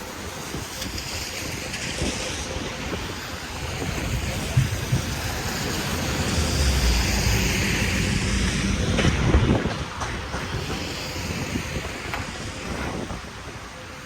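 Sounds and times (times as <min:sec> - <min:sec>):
wind buffeting microphone: 0:00.0 - 0:13.9
passing street traffic: 0:00.0 - 0:14.0.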